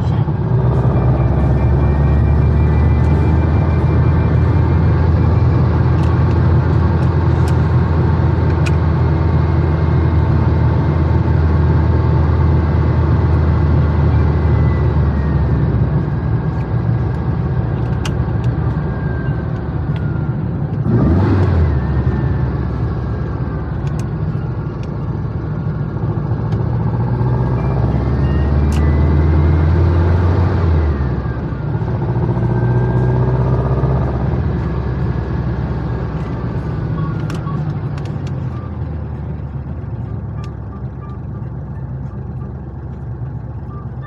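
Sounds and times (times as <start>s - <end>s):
car engine while driving: 0.0s - 44.0s.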